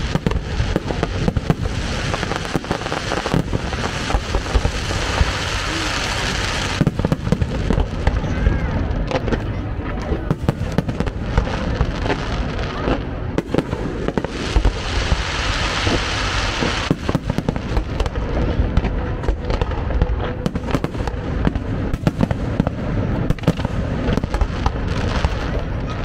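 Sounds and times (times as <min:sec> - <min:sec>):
fireworks crackling hiss: 0:00.0 - 0:09.3, 0:10.2 - 0:26.0
fireworks bursting with bangs: 0:00.0 - 0:26.0.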